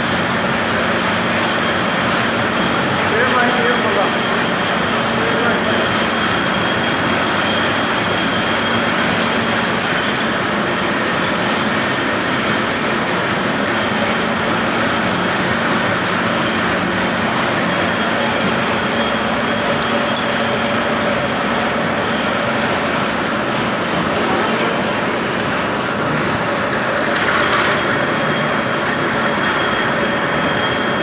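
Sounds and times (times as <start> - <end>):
drilling machine running: 0.0 - 31.0.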